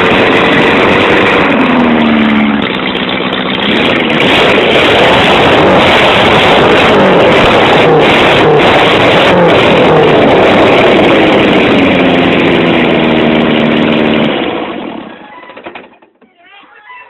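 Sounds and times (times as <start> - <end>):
loud engine exhaust: 0.0 - 15.2.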